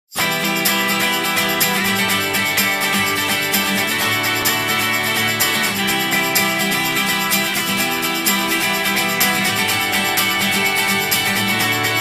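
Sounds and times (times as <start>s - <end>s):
strummed acoustic guitar music: 0.1s - 12.0s.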